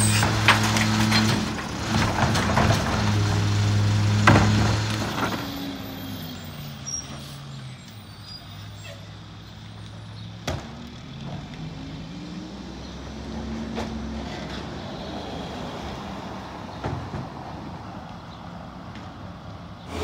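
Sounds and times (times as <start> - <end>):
diesel engine idling and revving: 0.0 - 20.0.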